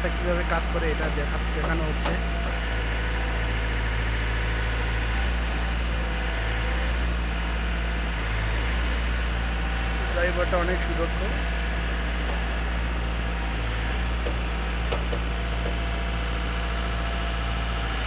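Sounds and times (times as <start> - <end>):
construction machine engine hum: 0.0 - 18.0.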